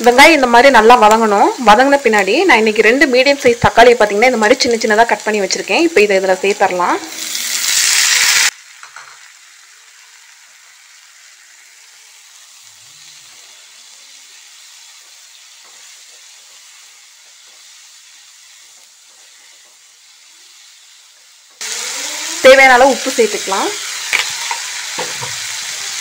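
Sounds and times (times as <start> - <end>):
food sizzling in hot oil: 0.0 - 26.0
frying hiss: 0.0 - 26.0.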